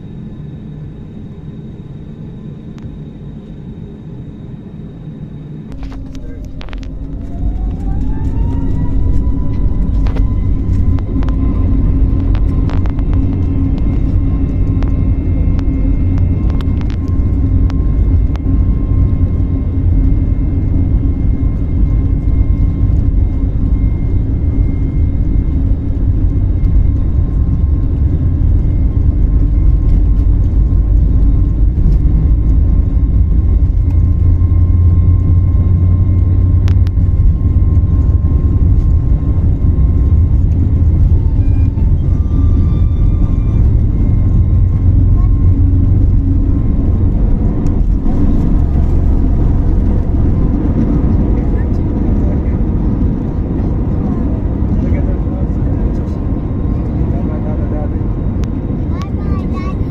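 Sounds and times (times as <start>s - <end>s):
jet low rumble: 0.0s - 59.9s
thin steady whine: 0.0s - 59.9s.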